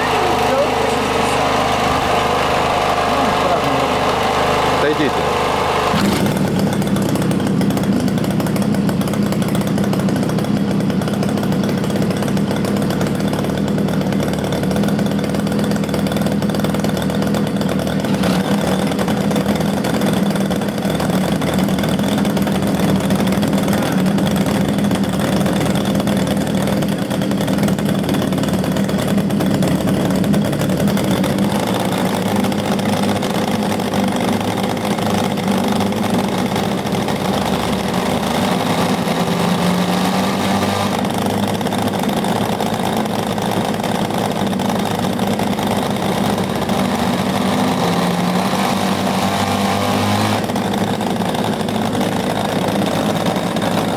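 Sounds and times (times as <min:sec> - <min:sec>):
small engines running: 0:00.0 - 0:53.9.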